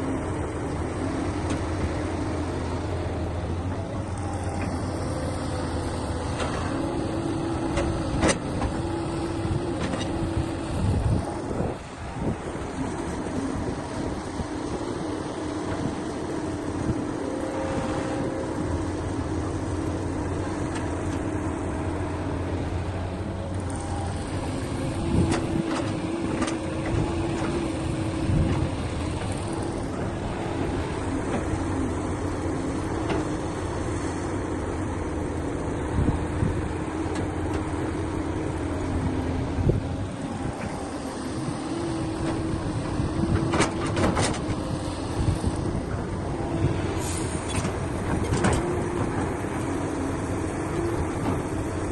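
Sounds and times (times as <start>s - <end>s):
diesel machinery engine running: 0.0s - 51.9s.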